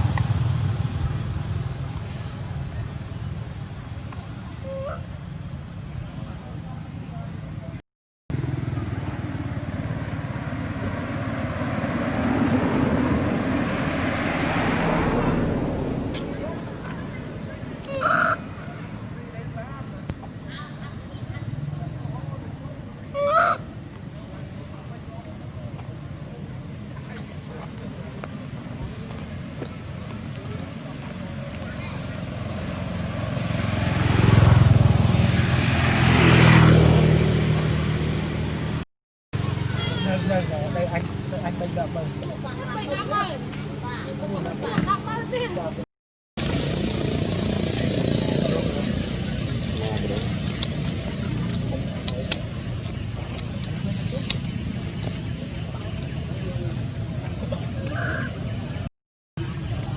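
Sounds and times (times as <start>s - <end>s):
motor vehicle running: 0.0s - 4.6s, 7.1s - 38.8s, 39.4s - 45.8s, 46.4s - 59.9s.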